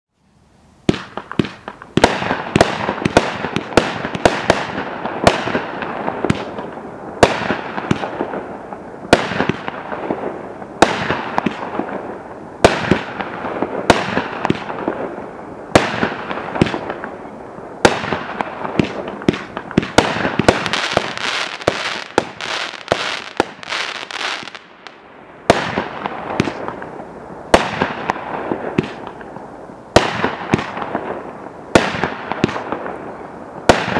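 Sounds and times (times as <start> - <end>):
fireworks bangs: 0.8 - 33.9
fireworks crackle: 0.8 - 33.9.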